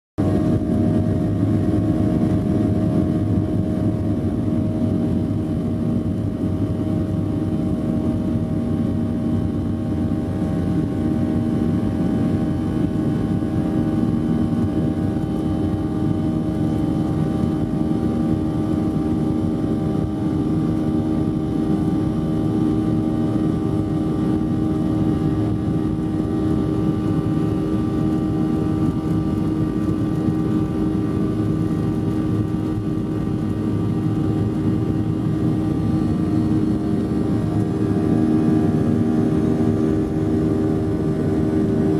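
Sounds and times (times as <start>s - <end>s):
jet engines running steadily: 0.2s - 41.9s.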